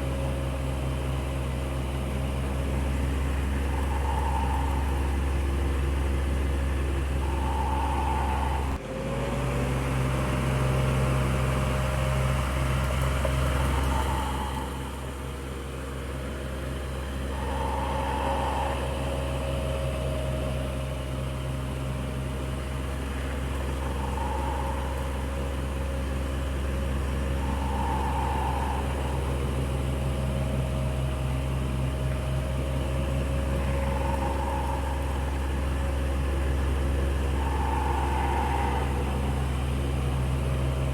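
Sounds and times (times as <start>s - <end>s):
electric fan whirring: 0.0s - 40.9s.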